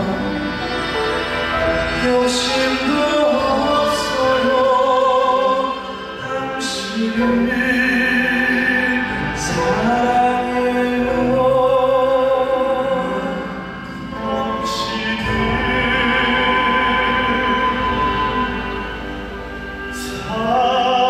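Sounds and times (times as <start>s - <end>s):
male vocal quartet singing operatically: 0.0s - 19.2s, 19.8s - 21.0s
traditional orchestra: 0.0s - 21.0s.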